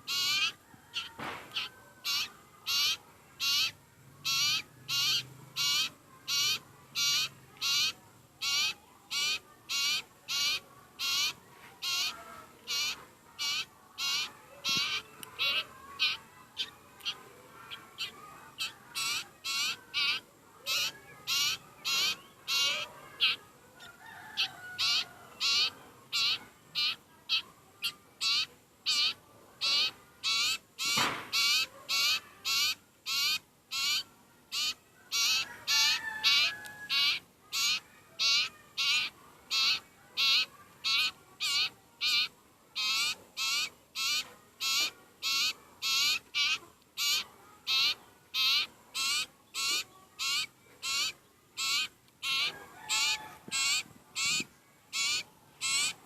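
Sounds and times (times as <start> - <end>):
bird calling high-pitched: 0.0 - 23.4, 24.2 - 56.0.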